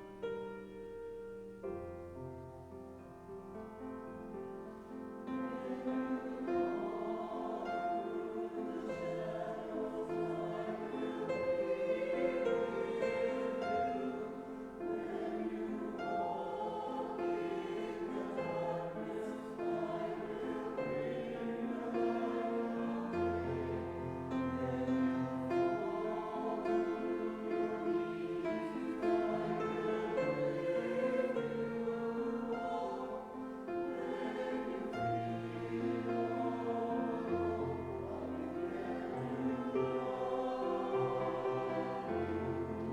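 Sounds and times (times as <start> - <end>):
church choir singing: 0.0 - 42.9.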